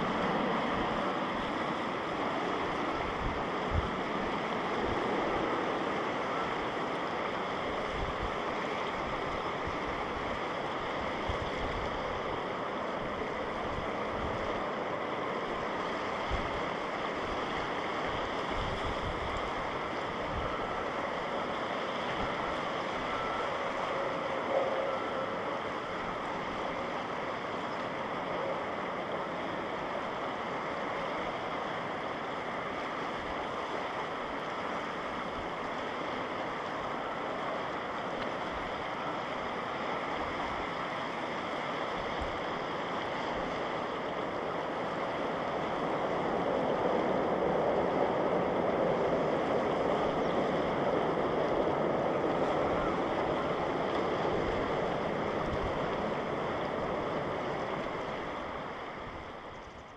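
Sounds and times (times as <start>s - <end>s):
water lapping at shore: 0.0s - 59.6s
distant jet engine rush: 0.0s - 59.9s.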